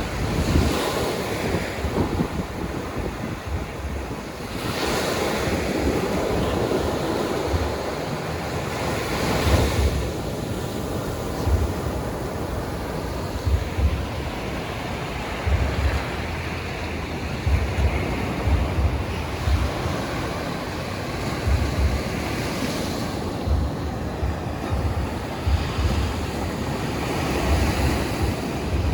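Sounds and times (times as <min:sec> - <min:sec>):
sea surf washing on beach: 0:00.0 - 0:28.9
wind buffeting microphone: 0:00.0 - 0:28.9.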